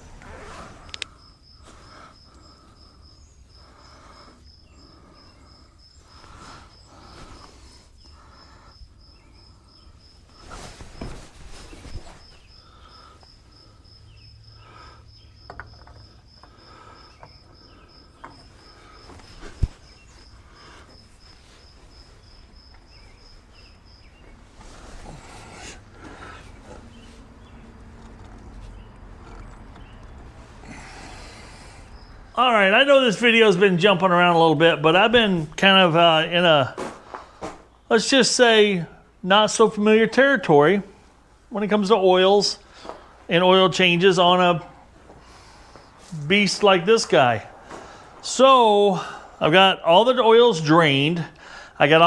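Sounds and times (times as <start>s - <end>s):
insect chirping: 0.0s - 52.0s.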